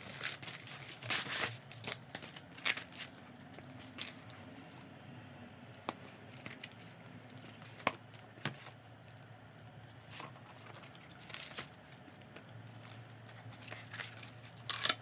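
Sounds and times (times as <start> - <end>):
objects crinkling and rustling: 0.0 - 5.1, 5.8 - 15.0.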